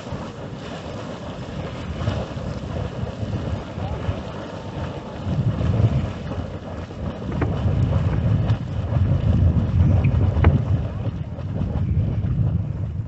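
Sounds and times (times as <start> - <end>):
boiling hot spring hissing: 0.0 - 13.0
wind buffeting microphone: 0.0 - 13.0.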